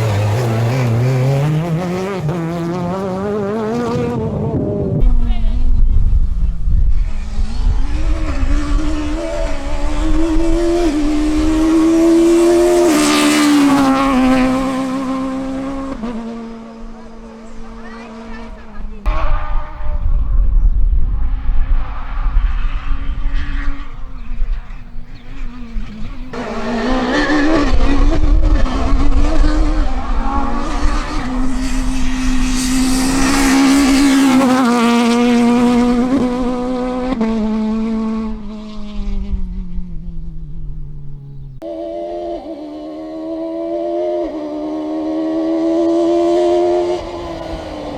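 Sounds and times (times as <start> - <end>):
rally car engine at full throttle: 0.0 - 47.9.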